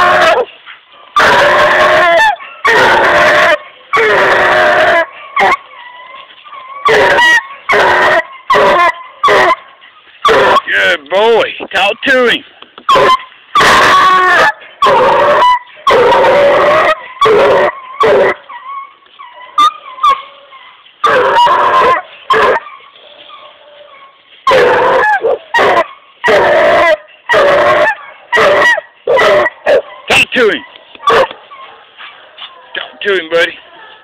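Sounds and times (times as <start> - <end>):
hound baying: 0.0 - 34.0
dog yips and whines: 1.2 - 9.6, 12.9 - 31.8.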